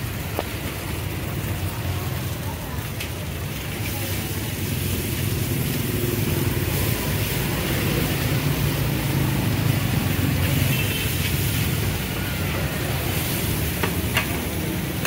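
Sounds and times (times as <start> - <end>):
noodles sizzling in a wok: 0.0 - 15.0
street traffic: 0.0 - 15.0
vehicle engine rumbling: 0.0 - 15.0.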